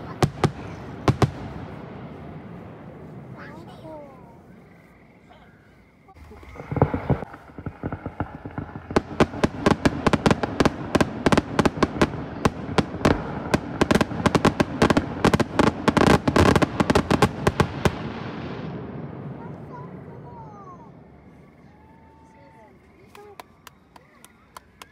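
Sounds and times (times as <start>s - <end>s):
fireworks bangs: 0.0s - 5.3s, 6.0s - 21.4s.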